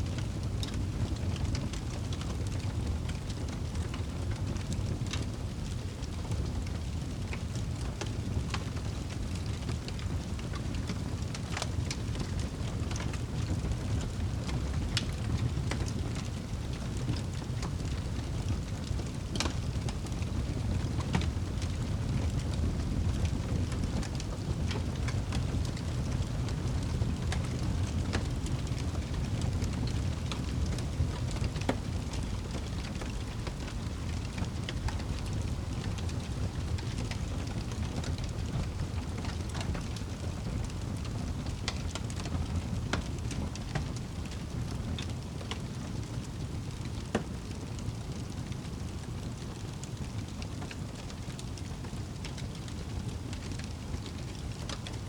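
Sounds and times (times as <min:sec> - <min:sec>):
fire flames rumbling: 0:00.0 - 0:55.0
wood fire crackling and popping: 0:00.0 - 0:55.0.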